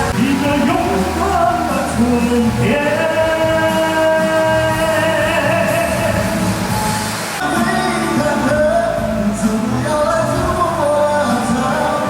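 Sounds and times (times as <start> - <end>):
band playing a steady beat: 0.0 - 11.7.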